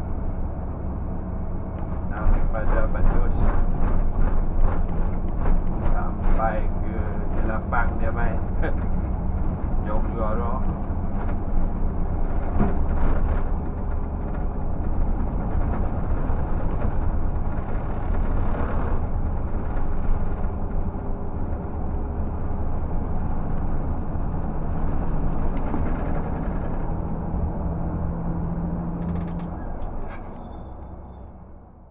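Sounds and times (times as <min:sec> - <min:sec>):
truck diesel engine droning: 0:00.0 - 0:31.9.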